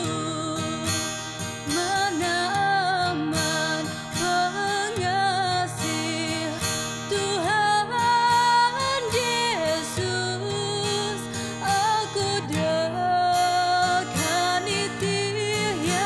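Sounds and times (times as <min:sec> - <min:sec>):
woman singing slow song: 0:00.0 - 0:16.0.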